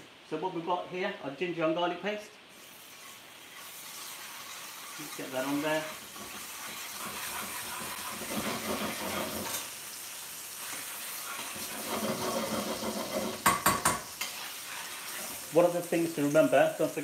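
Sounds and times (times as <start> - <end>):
paste sizzling in hot oil: 2.5 - 17.0.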